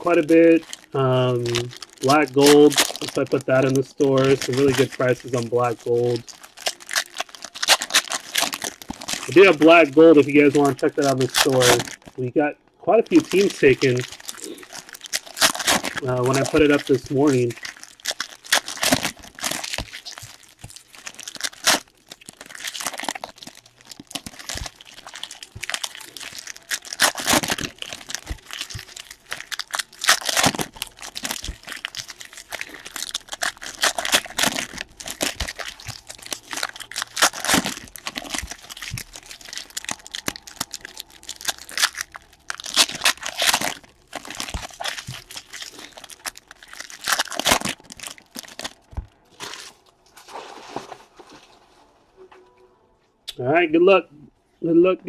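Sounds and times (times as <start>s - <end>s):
packaging tearing and crinkling: 0.0s - 12.3s, 12.9s - 51.4s.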